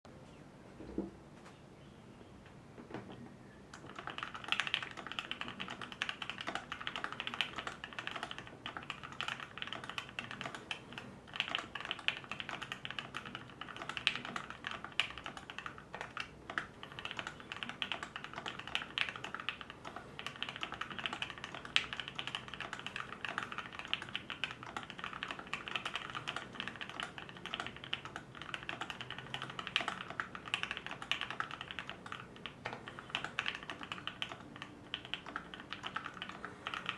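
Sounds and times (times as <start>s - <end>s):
mechanical keyboard typing: 3.7s - 36.9s.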